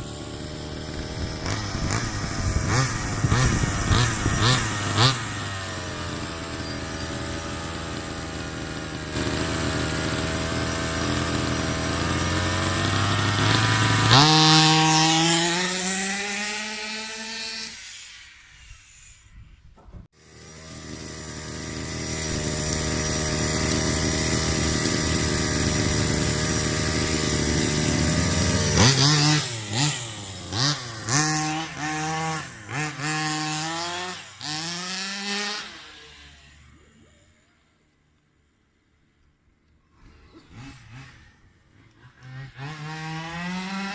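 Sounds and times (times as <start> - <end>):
rc car engine revving: 0.0 - 37.9, 39.9 - 43.9.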